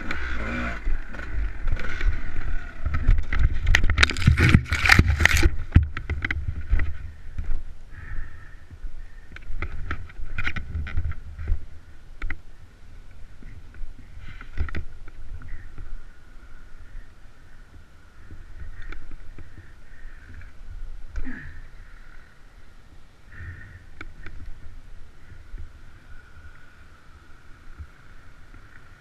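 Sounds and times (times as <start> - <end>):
wind rumbling on camera: 0.0 - 29.0.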